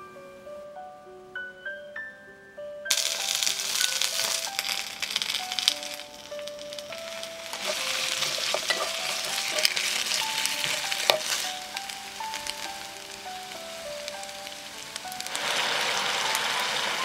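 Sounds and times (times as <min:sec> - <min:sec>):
food sizzling in oil: 0:02.9 - 0:17.0.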